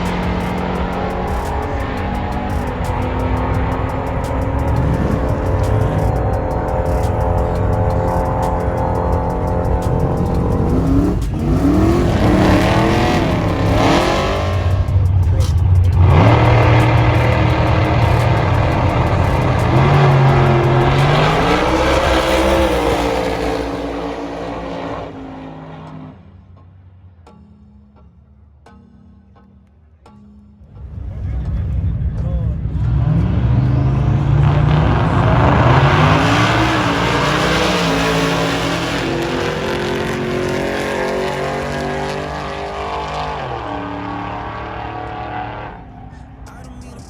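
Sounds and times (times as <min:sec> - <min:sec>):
truck engine accelerating: 0:00.0 - 0:26.5, 0:30.8 - 0:47.0.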